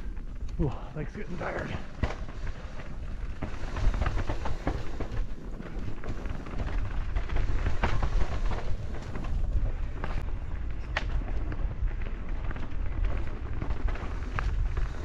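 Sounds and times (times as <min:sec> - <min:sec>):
bike rattling and knocking: 0:01.5 - 0:15.0.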